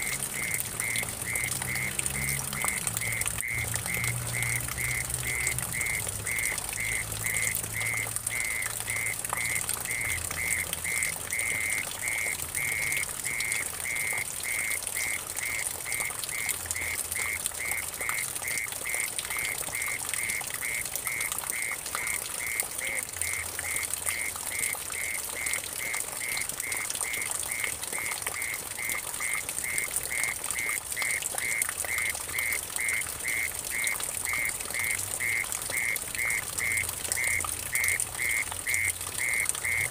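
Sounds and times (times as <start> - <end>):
water trickling into puddle: 0.0 - 39.9.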